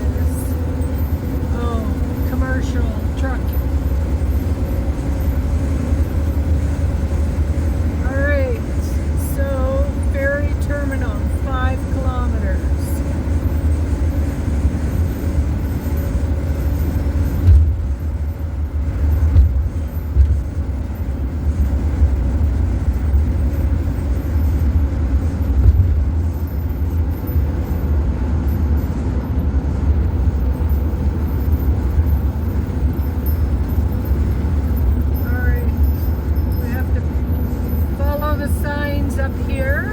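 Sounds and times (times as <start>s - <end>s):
van engine and tyre rumble: 0.0s - 39.9s.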